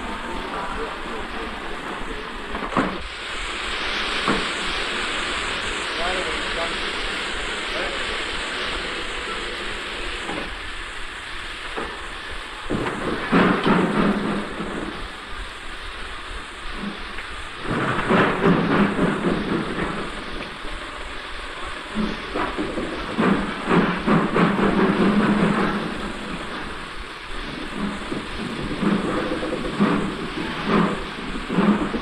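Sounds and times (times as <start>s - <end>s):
model steam locomotive running: 0.0s - 32.0s.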